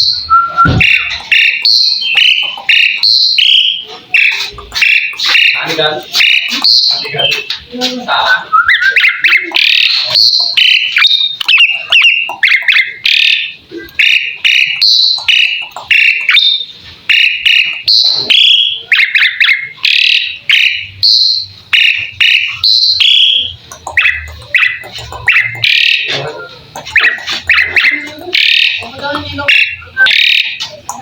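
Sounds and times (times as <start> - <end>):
starling singing: 0.0 - 31.0.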